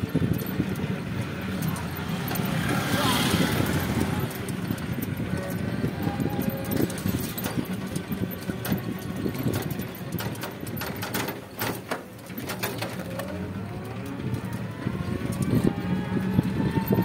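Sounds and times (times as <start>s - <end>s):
vehicle rattling on road: 0.0s - 17.0s.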